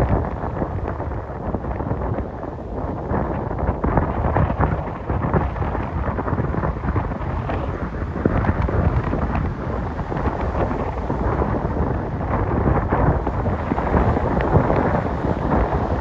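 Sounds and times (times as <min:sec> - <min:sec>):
crackles and thumps: 0:00.0 - 0:16.0
wind buffeting microphone: 0:00.0 - 0:16.0.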